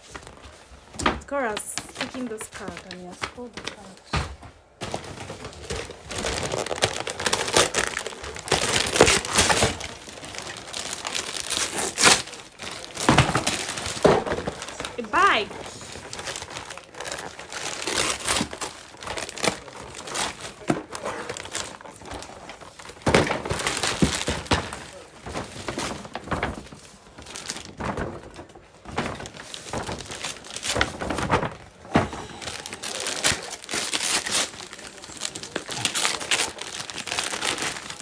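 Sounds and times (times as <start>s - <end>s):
wrapping paper crumpling and tearing: 0.0s - 4.1s, 4.8s - 38.0s
packages knocking: 0.0s - 38.0s.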